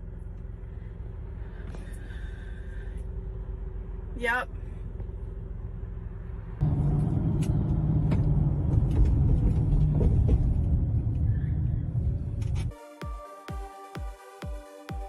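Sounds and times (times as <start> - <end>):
car engine and road rumble: 0.0 - 12.8.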